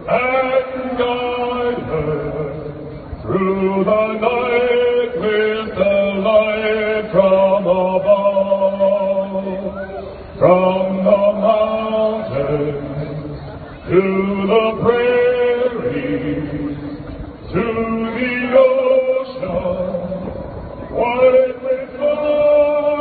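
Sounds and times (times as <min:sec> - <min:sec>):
man singing into a microphone: 0:00.0 - 0:23.0.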